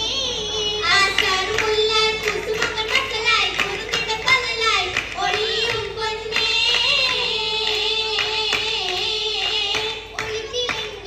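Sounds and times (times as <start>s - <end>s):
girls singing slow melody: 0.0s - 11.0s
hand claps: 1.0s - 11.0s.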